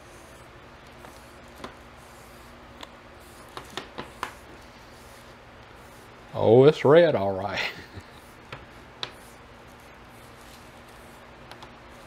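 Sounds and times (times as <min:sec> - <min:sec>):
foam brush brushing on wood: 0:00.0 - 0:12.0
low room hum: 0:00.0 - 0:12.0.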